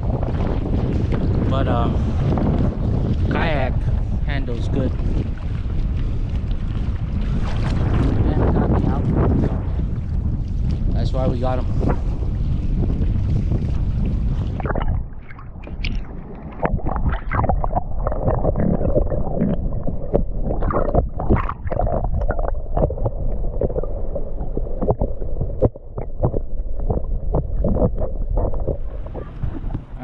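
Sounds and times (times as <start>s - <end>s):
water sloshing against kayak: 0.0s - 30.0s.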